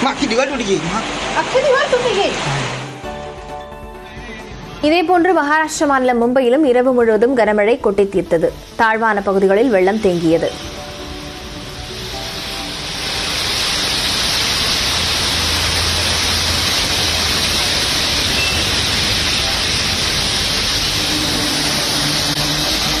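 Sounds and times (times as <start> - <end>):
heavy rain pouring: 0.0 - 6.1, 7.2 - 23.0.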